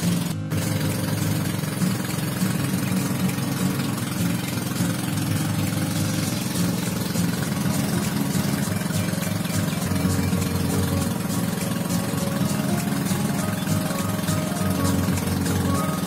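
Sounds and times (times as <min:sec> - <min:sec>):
boat engine droning: 0:00.5 - 0:16.0.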